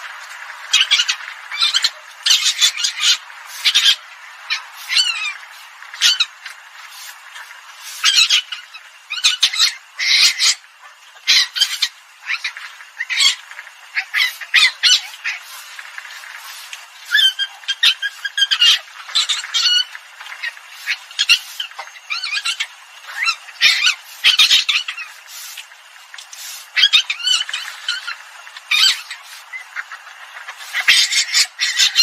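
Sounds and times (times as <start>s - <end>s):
harsh squawking animal calls: 0.0s - 32.0s
steady background hiss: 0.0s - 32.0s.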